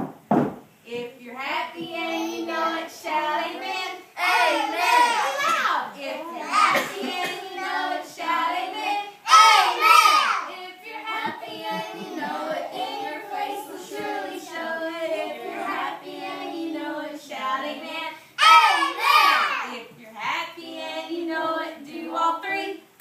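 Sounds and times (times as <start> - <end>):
girls singing together: 0.9 - 23.0.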